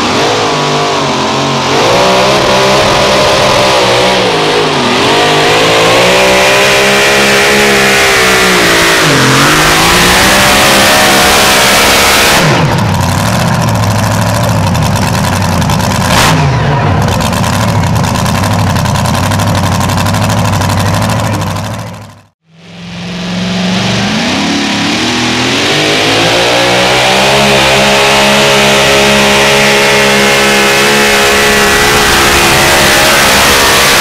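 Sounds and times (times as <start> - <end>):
truck engine at full throttle: 0.0 - 34.0.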